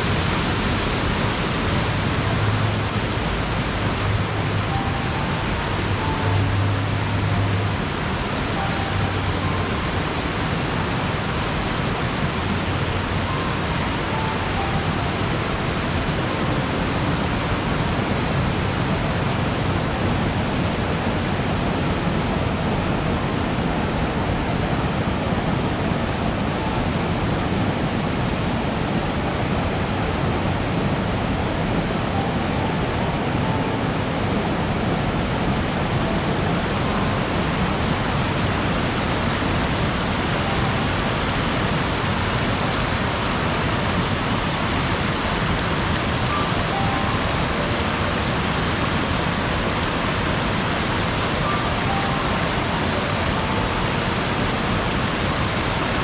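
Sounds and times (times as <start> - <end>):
waterfall roar: 0.0 - 56.0.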